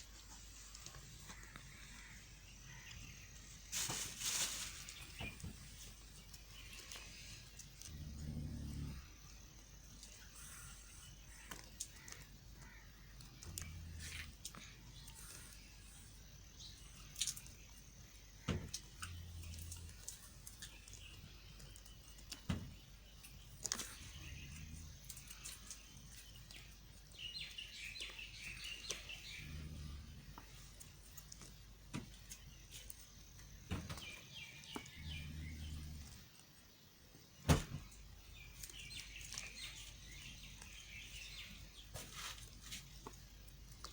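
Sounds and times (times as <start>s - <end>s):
faint birds chirping: 0.0s - 43.9s.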